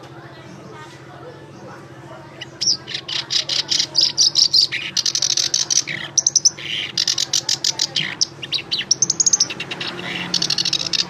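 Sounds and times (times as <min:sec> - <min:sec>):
songbird chirping and trilling: 0:00.0 - 0:11.0.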